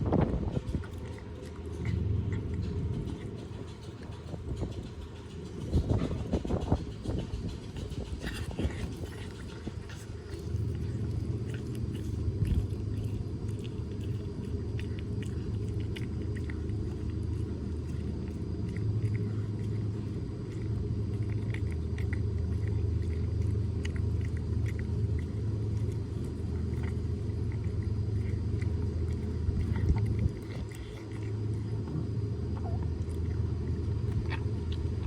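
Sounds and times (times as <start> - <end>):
cat chewing bone: 0.0 - 35.0
steady low rumble: 0.0 - 35.0.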